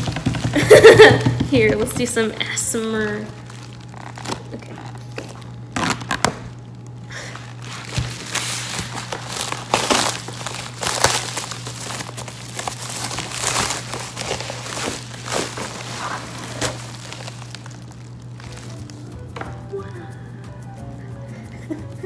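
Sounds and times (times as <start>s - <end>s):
plastic mailer crinkling: 0.0s - 20.0s
steady low hum: 0.0s - 22.0s.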